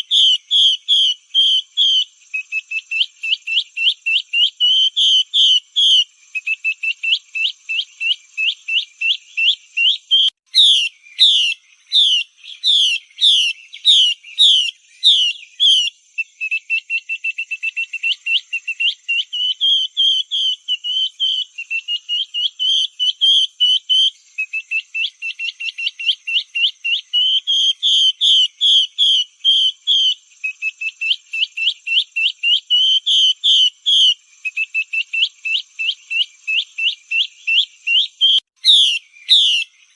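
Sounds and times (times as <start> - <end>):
bird calling: 0.0 - 39.9.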